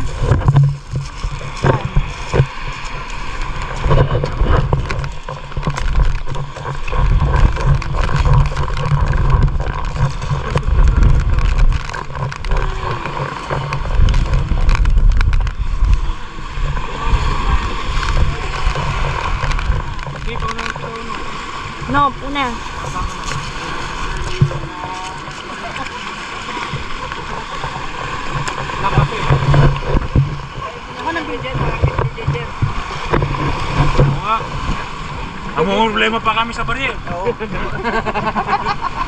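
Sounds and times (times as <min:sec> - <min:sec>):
motorboat engine running: 0:00.0 - 0:39.0
wind buffeting microphone: 0:00.0 - 0:39.0.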